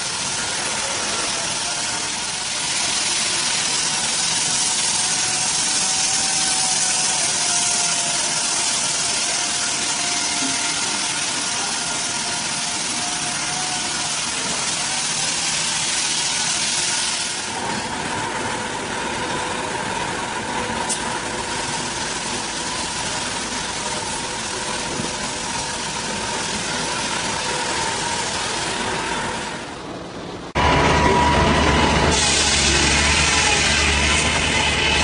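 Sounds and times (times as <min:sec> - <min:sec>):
engine-driven machine running: 0:00.0 - 0:35.0.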